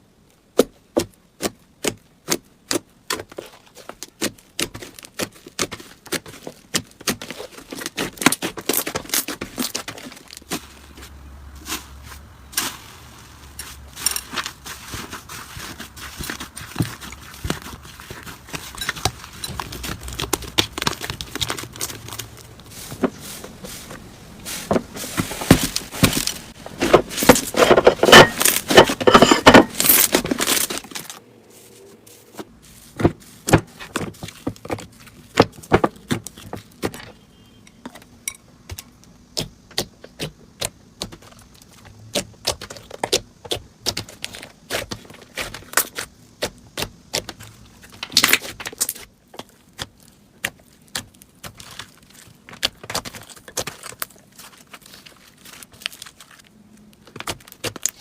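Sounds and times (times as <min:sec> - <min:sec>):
slime squishing with crackles: 0:00.0 - 0:58.0.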